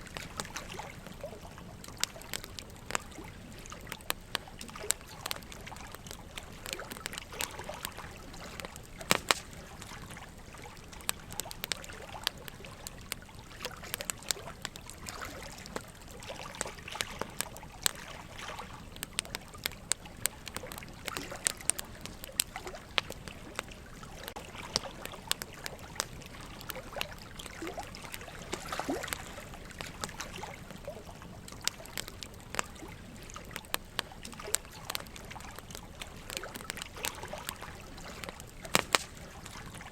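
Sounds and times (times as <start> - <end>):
running water trickling: 0.0 - 39.9
wood fire crackling and popping: 0.0 - 39.9.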